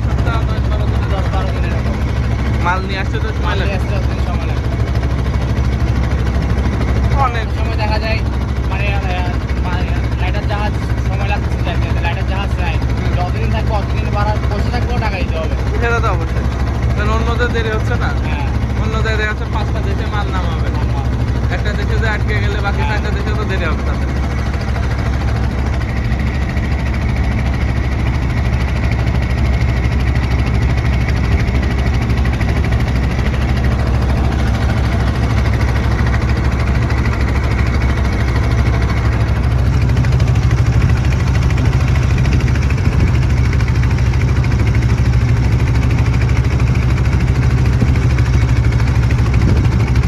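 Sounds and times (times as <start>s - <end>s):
boat engine droning: 0.0s - 50.0s.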